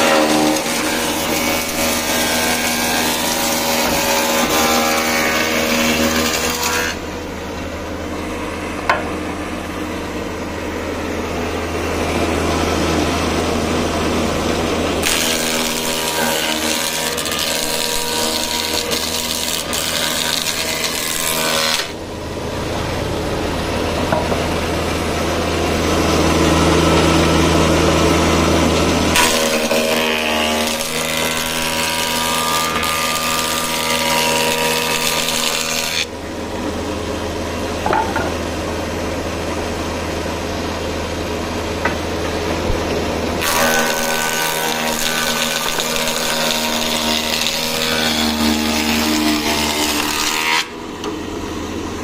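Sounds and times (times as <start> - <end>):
planer hissing cut: 0.0 - 52.0
planer motor hum: 0.0 - 52.0.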